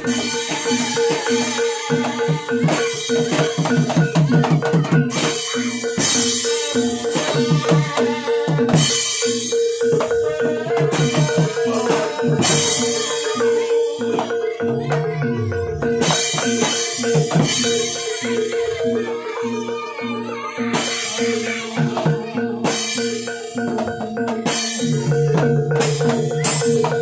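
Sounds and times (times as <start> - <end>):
drums beating busy rhythm: 0.0 - 27.0
held tone: 0.0 - 27.0.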